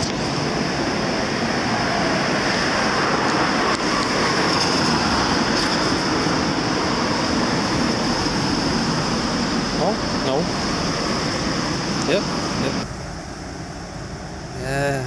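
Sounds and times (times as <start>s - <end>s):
tram running past: 0.3s - 13.2s.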